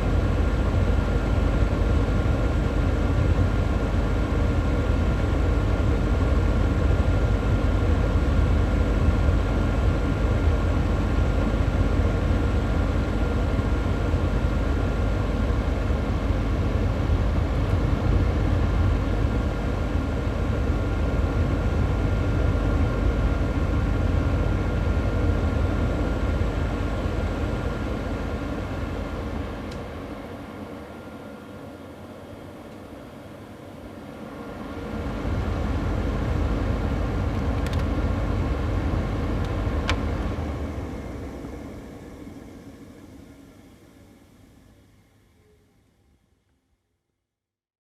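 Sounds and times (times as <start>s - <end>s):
air purifier fan running: 0.0s - 46.4s.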